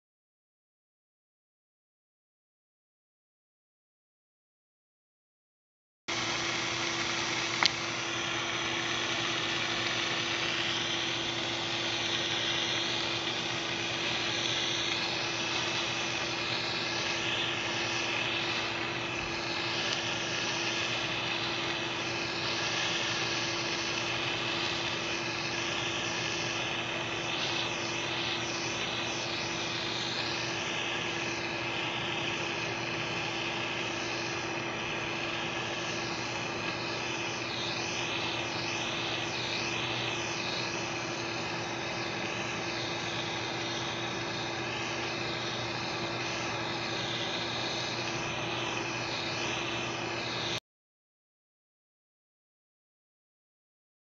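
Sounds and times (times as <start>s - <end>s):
gas torch flame hissing: 6.1s - 50.6s.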